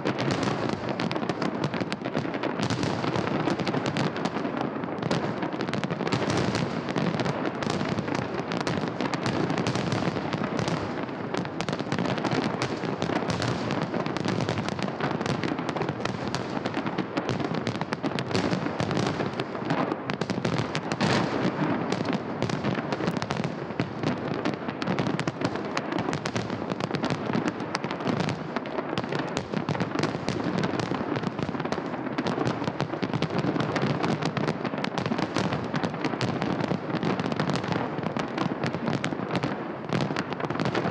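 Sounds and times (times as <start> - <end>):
fireworks crackling and popping: 0.0 - 40.9.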